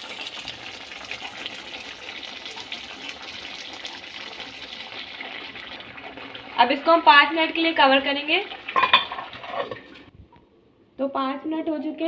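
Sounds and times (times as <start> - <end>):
curry bubbling and sizzling: 0.0 - 10.2.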